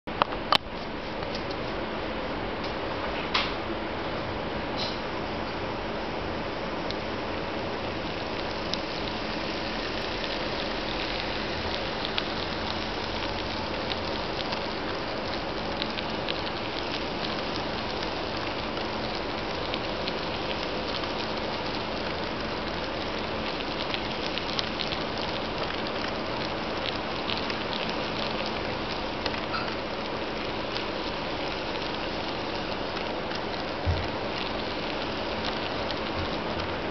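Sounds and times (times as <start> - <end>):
faint motor hum: 0.1 - 36.9.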